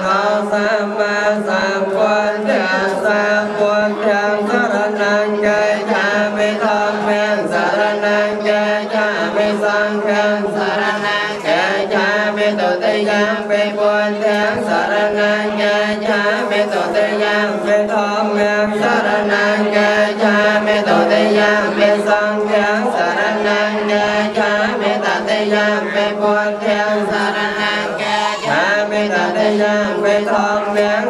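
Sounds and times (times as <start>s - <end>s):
amplified voice chanting: 0.0s - 31.0s
monks chanting: 0.0s - 31.0s.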